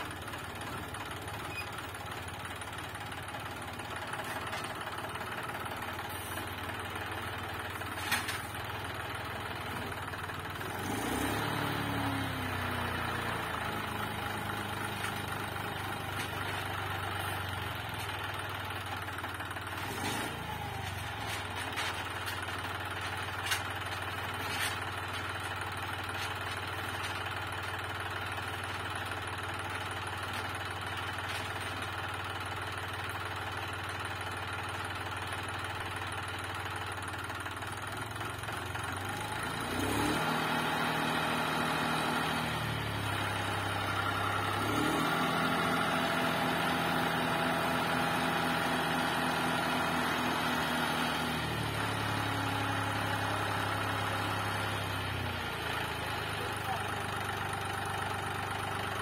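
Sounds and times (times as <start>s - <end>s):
diesel tractor engine idling and revving: 0.0s - 59.0s.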